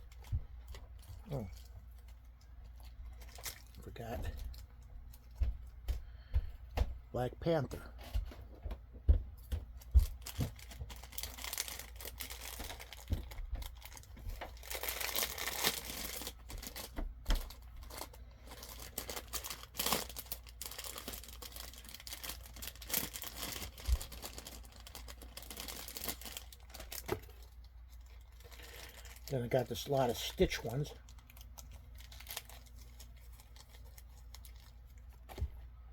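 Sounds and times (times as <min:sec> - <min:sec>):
packaging crinkling and tearing: 0:00.0 - 0:05.4, 0:09.8 - 0:35.5.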